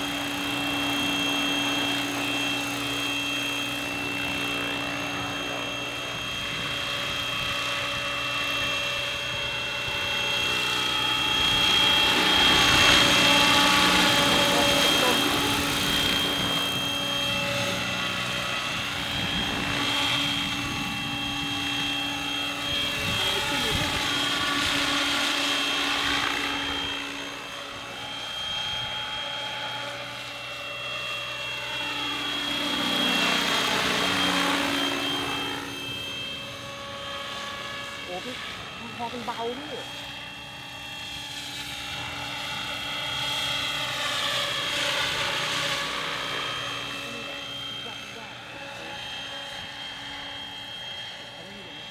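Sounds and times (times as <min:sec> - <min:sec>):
model helicopter flying: 0:00.0 - 0:51.9.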